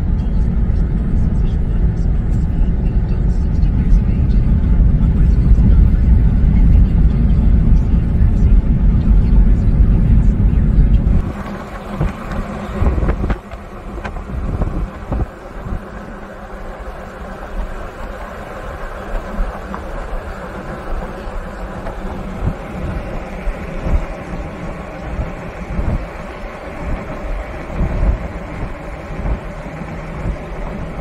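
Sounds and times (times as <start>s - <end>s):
car road and wind noise: 0.0s - 31.0s
low rumble: 0.0s - 31.0s.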